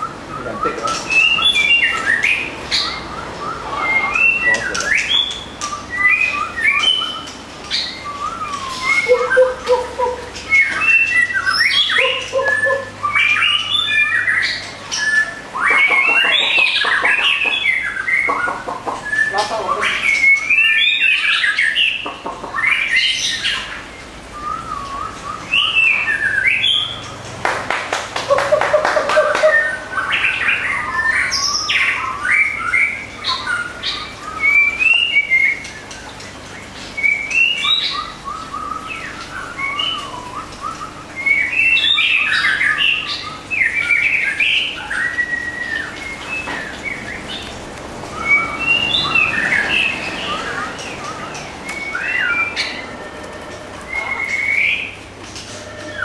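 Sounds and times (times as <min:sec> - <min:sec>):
bird singing whistled phrases: 0:00.0 - 0:22.0, 0:22.6 - 0:27.1, 0:29.2 - 0:36.2, 0:37.0 - 0:47.4, 0:48.1 - 0:53.1, 0:53.7 - 0:56.0.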